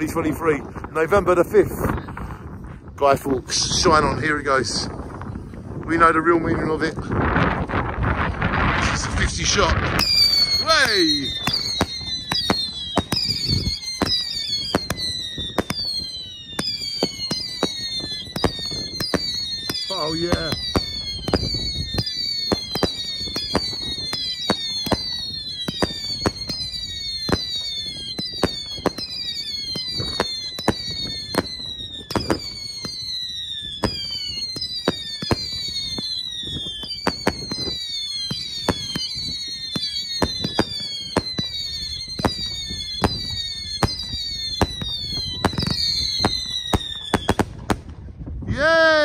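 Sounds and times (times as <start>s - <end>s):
firework bangs: 0.0s - 48.5s
firework whistles: 7.0s - 47.9s.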